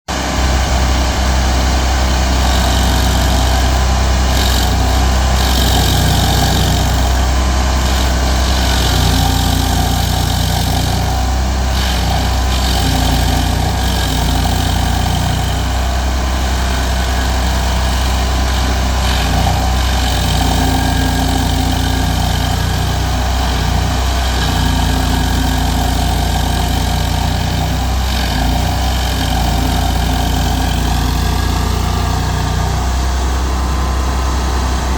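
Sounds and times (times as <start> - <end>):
cutter wheel grinding stump: 0.1 - 34.9
stump grinder engine running: 0.1 - 34.9.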